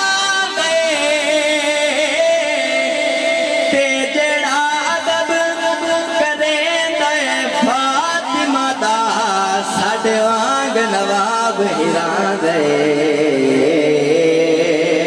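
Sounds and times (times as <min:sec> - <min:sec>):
man singing long ornamented notes: 0:00.0 - 0:15.0.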